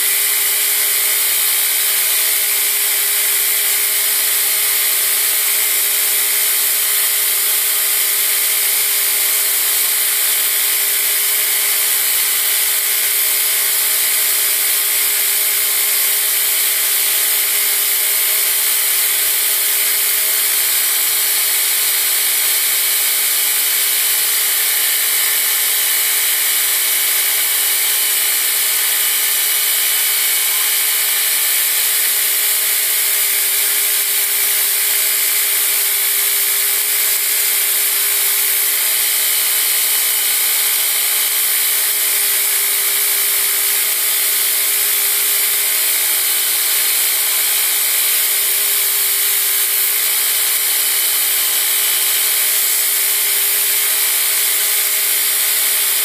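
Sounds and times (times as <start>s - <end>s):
blade grinding hiss: 0.0s - 56.0s.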